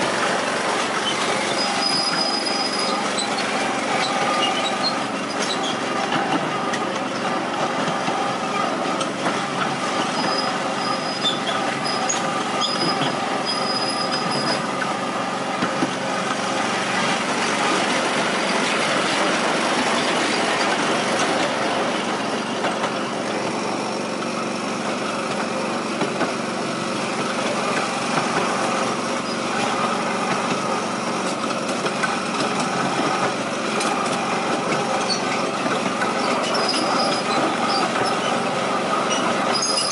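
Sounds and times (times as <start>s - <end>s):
miniature locomotive hum: 0.0s - 39.9s
wheels rumbling on rails: 0.0s - 39.9s.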